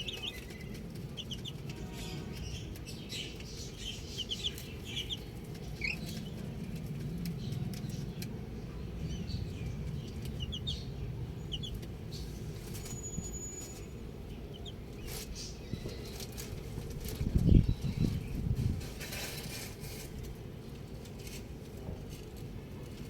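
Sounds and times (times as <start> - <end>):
baby chicks peeping: 0.0 - 20.1
low background rumble: 0.0 - 23.0.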